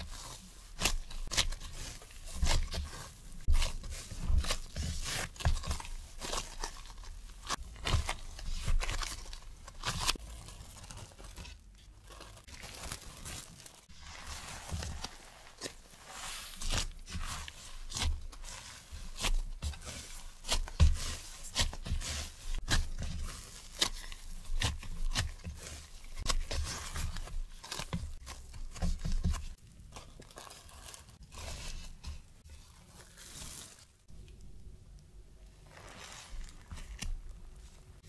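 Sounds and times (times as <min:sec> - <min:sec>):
dough pulling and slapping: 0:00.0 - 0:34.7, 0:35.4 - 0:38.0
plastic wrap crinkling: 0:00.0 - 0:38.0.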